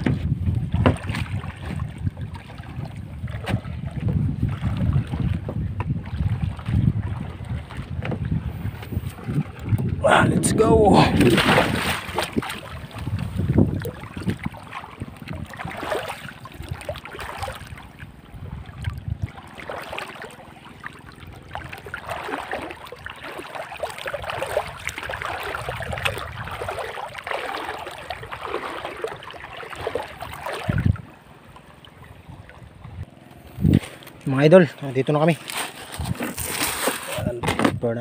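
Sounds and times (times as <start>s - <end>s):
water splashing and sloshing: 0.0s - 38.0s.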